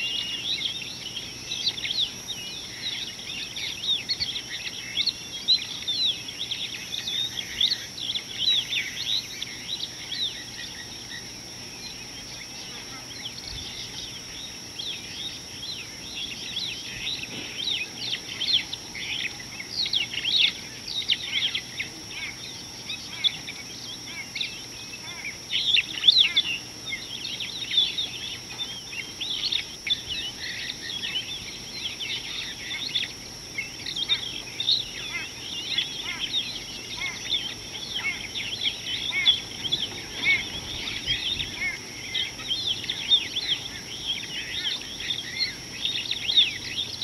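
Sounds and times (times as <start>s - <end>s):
high-pitched insect drone: 0.0s - 47.0s
small birds chirping: 0.0s - 47.0s.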